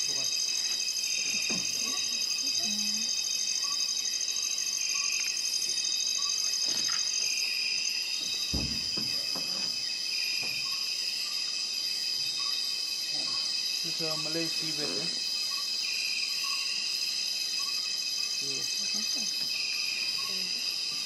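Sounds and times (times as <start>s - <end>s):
insect chorus buzzing: 0.0s - 21.0s
rapid pulsing insect trill: 0.0s - 21.0s.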